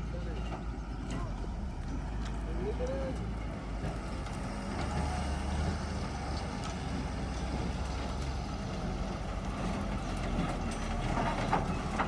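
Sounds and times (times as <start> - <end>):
heavy engine humming: 0.0 - 12.0.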